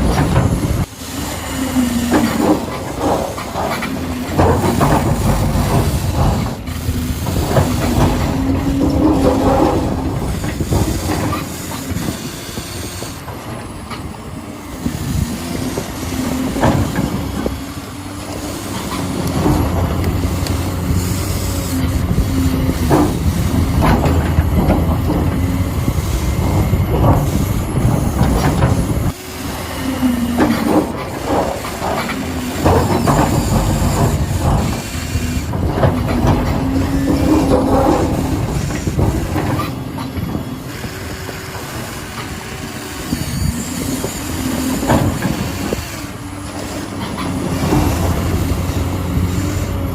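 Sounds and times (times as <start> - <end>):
gears and tracks clattering: 0.0 - 49.9
small electric motors whining: 0.0 - 49.9.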